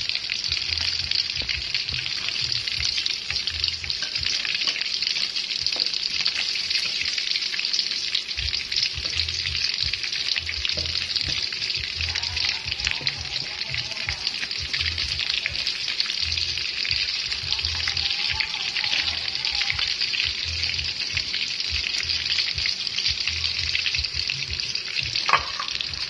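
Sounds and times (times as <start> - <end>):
meat deep-frying in oil: 0.0 - 26.0.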